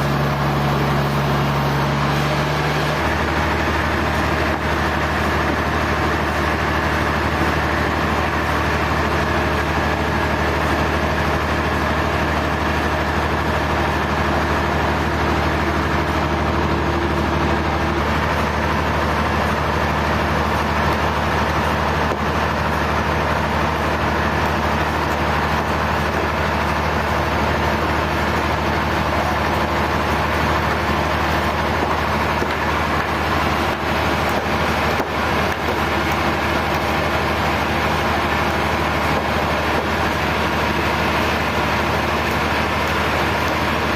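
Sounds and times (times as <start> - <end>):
sawmill machinery drone: 0.0 - 43.9.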